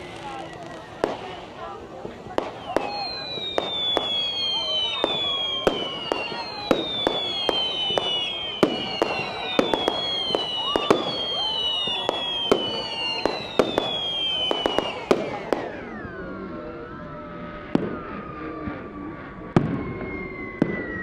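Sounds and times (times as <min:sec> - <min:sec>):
falling firework whistle: 0:00.0 - 0:21.0
fireworks bangs: 0:00.0 - 0:21.0.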